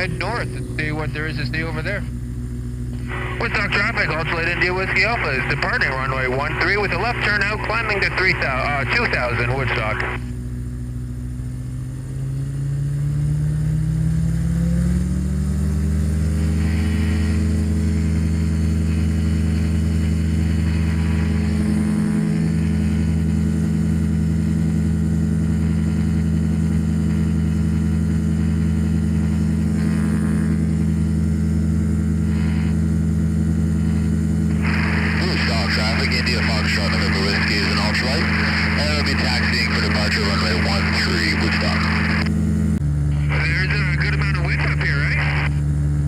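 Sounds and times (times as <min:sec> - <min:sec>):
light aircraft engine and propeller: 0:00.0 - 0:46.0.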